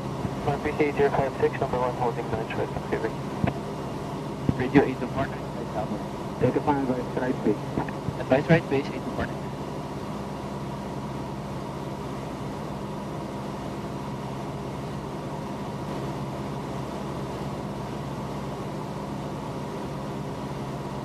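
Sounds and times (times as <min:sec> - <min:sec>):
airplane engine and propeller drone: 0:00.0 - 0:21.0.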